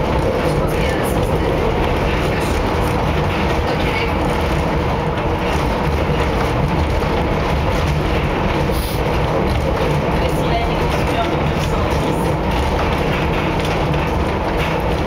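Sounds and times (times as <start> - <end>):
wheels running on rails: 0.0 - 15.0.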